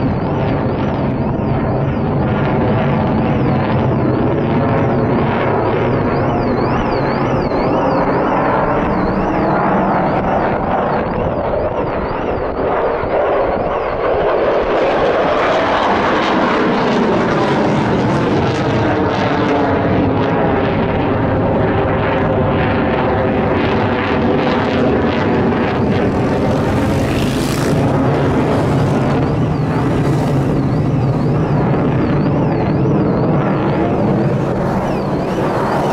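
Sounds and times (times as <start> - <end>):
jet engine roaring overhead: 0.0 - 35.9.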